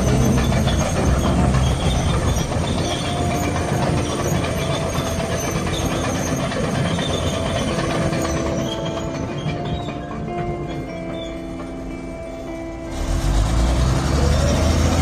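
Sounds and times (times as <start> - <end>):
diesel engine running: 0.0 - 15.0
track chains clattering: 0.0 - 15.0.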